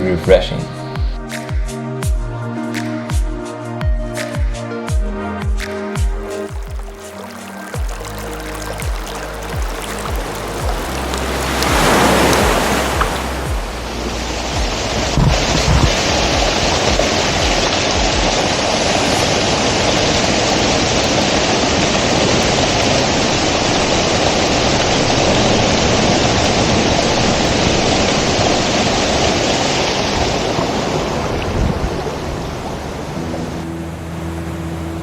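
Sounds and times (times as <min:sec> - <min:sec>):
waterfall rushing: 0:06.0 - 0:35.0.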